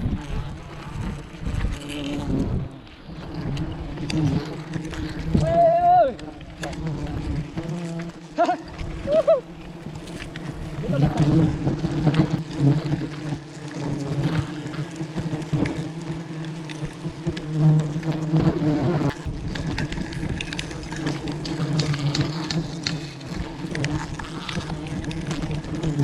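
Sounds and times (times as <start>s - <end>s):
bees buzzing: 0.1s - 5.4s, 6.2s - 26.0s.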